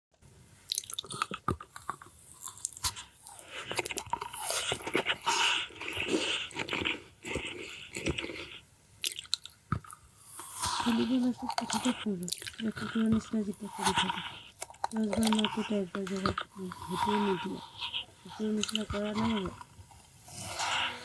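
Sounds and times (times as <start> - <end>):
biting and chewing crunchy food: 0.7 - 21.0.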